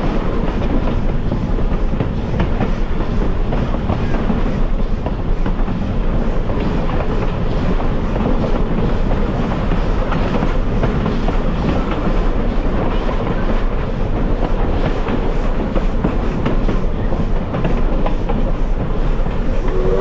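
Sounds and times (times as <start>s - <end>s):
railway car rumbling on track: 0.0s - 20.0s
wheels clicking on rails: 0.0s - 20.0s.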